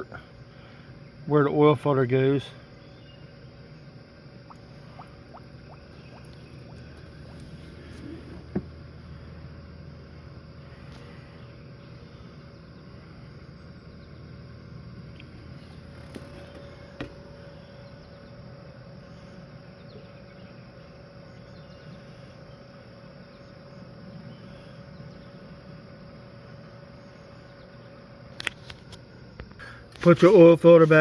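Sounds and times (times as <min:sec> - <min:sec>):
faint steady tone: 0:00.0 - 0:31.0
low background hum: 0:00.0 - 0:31.0.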